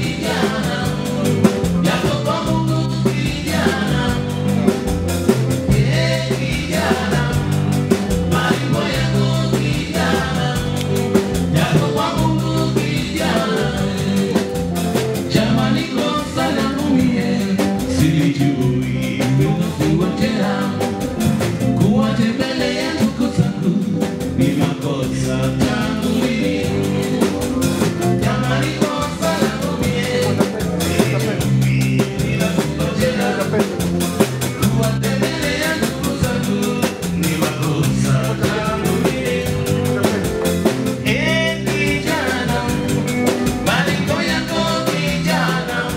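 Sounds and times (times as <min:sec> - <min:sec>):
person singing: 0:00.0 - 0:04.9, 0:05.6 - 0:45.9
drum kit beat: 0:00.0 - 0:45.9
live band playing dance music: 0:00.0 - 0:45.9.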